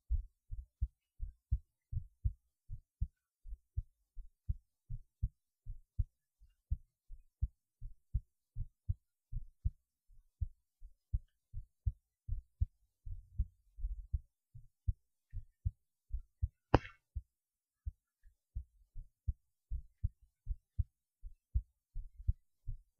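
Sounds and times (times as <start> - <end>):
heartbeat thumps: 0.1 - 6.1, 7.4 - 9.8, 10.4 - 18.0, 18.6 - 22.9.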